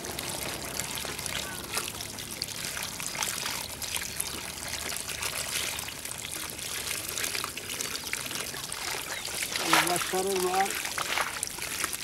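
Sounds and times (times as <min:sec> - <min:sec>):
small splatters of water and fish: 0:00.0 - 0:12.0
water pouring and splashing: 0:00.0 - 0:12.0.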